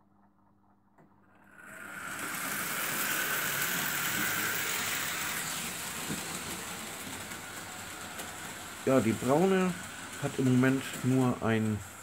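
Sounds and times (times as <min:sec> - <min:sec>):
model train whirring and rolling: 0:01.3 - 0:12.0.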